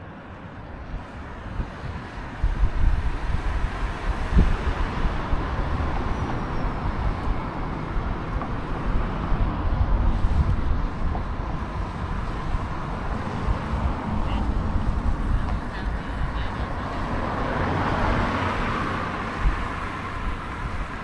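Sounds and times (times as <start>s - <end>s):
road traffic: 0.0s - 21.0s
wind rumble on microphone: 0.2s - 21.0s.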